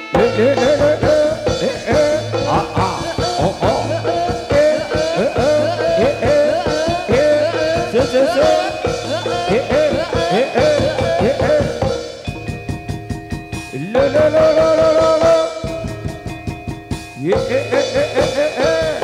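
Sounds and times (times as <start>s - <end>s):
hand-drum strokes: 0.0s - 19.0s
held ringing tones: 0.0s - 19.0s
wailing melody line: 0.0s - 19.0s.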